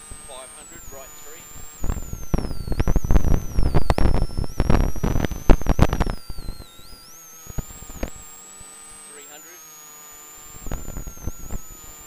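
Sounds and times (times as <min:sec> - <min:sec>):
intercom crackling and popping: 0:00.0 - 0:12.0.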